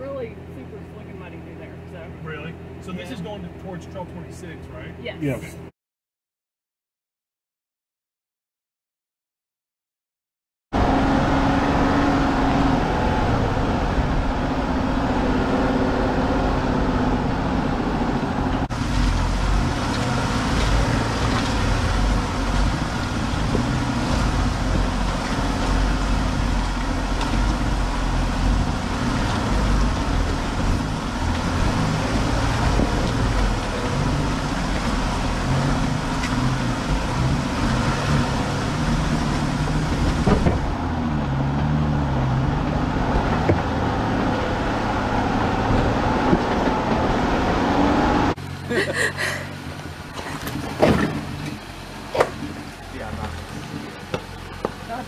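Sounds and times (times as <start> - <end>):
engine rumble: 0.0 - 5.7, 10.8 - 55.0.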